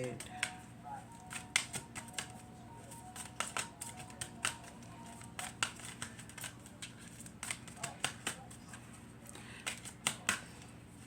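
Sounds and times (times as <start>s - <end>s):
cards being shuffled: 1.2s - 10.7s.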